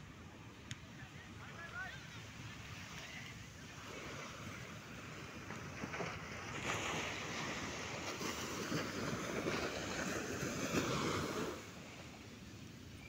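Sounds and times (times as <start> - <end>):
small waves breaking on beach: 0.0 - 13.0.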